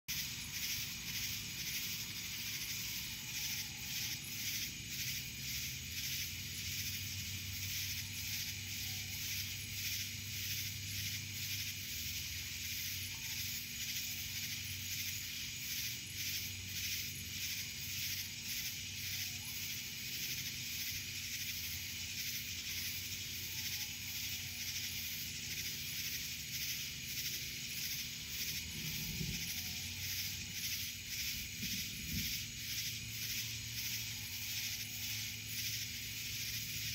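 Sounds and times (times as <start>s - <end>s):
insects pulsing drone: 0.1s - 36.9s.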